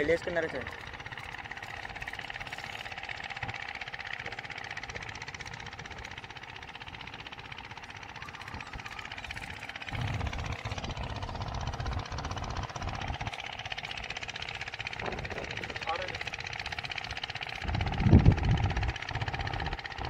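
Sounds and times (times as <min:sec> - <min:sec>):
fishing reel gears ticking: 0:00.0 - 0:20.0.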